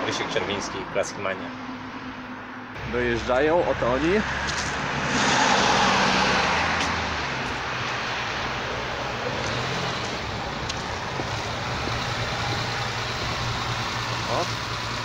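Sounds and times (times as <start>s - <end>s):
van passing: 1.3s - 15.0s
car engine humming: 1.5s - 15.0s.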